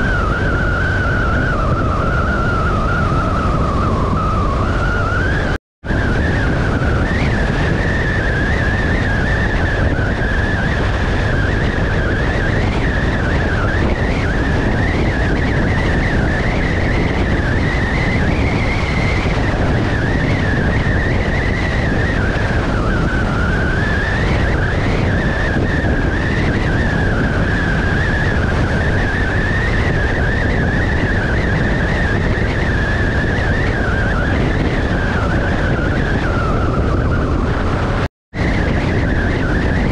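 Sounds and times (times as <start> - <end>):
motorcycle engine whine: 0.0 - 39.9
wind rush over microphone: 0.0 - 39.9.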